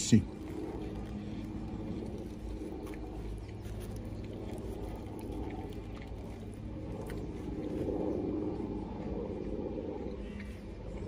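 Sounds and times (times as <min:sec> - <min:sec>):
low steady hum: 0:00.0 - 0:11.0
chewing wet mouth sounds: 0:00.2 - 0:11.0.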